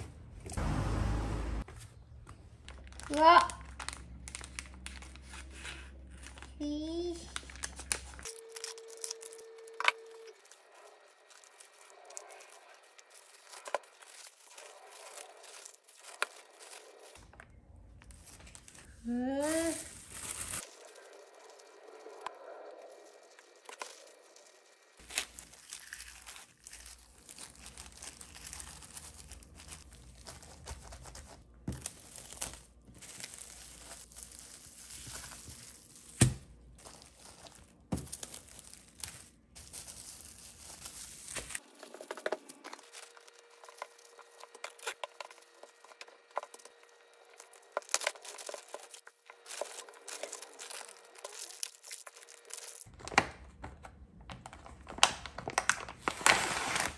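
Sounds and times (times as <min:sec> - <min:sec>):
packaging crinkling and tearing: 0:02.6 - 0:53.7, 0:54.3 - 0:56.9.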